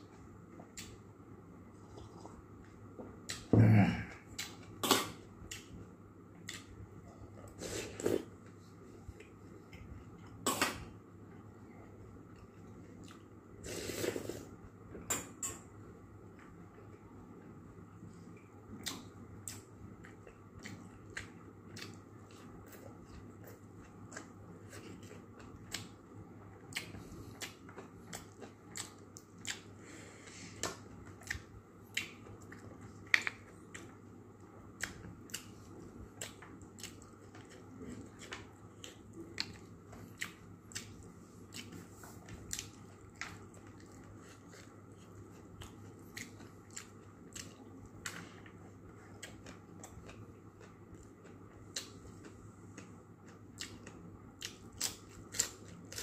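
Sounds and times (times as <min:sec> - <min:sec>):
person chewing food: 0:00.0 - 0:17.4, 0:18.1 - 0:56.0
faint steady hum: 0:00.0 - 0:56.0.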